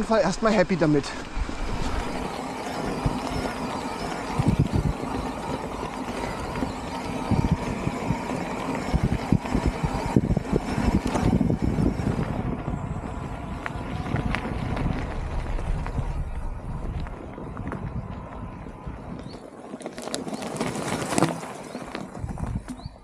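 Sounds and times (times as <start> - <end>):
bike tyre riding noise: 0.0 - 23.0.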